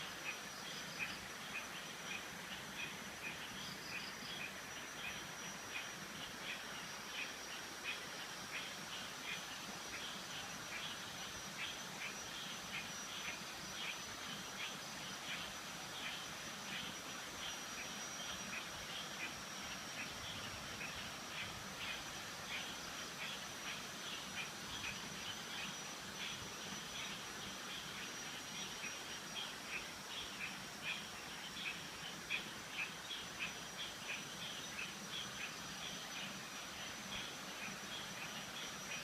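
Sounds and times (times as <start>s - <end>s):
frogs croaking: 0.0s - 39.0s.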